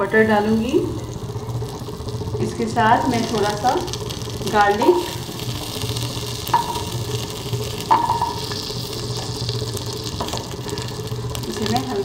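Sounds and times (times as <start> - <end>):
butter sizzling in a pot: 0.0 - 12.0.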